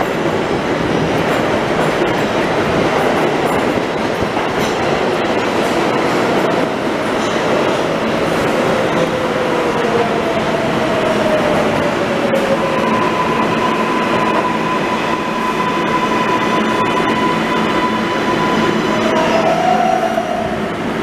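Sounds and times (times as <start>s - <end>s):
subway train rumble: 0.0s - 21.0s.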